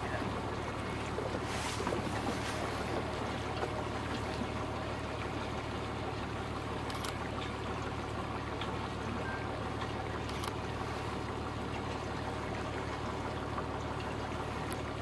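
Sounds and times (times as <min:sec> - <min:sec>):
boat engine humming: 0:00.0 - 0:15.0
water rushing along hull: 0:00.0 - 0:15.0.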